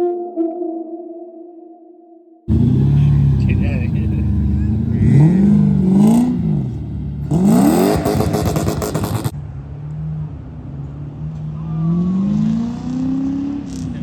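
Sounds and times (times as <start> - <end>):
car engine revving: 2.5 - 14.0.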